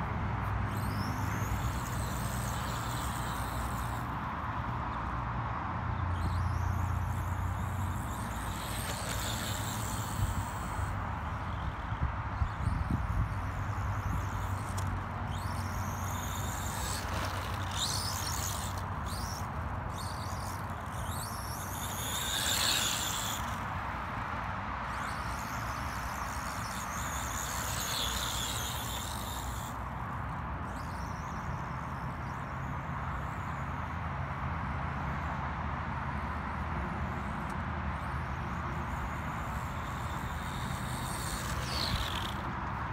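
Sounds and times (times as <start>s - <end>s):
toy truck motor whining: 0.0s - 5.2s, 6.0s - 34.0s, 36.1s - 42.9s.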